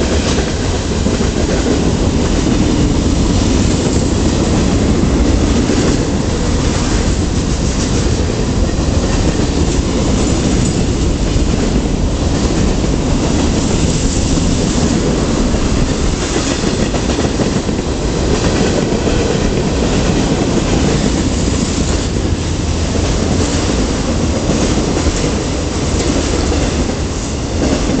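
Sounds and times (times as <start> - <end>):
steel wheels clattering on rails: 0.0 - 28.0.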